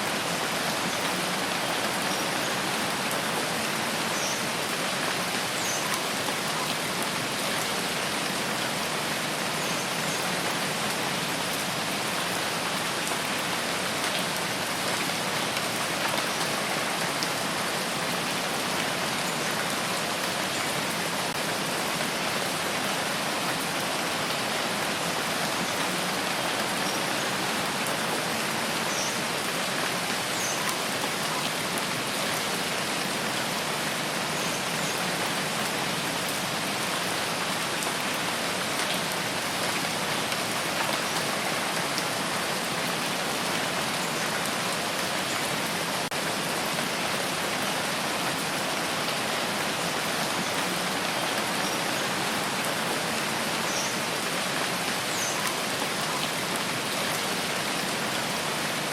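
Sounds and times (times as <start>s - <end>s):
rain falling on foliage: 0.0s - 58.9s.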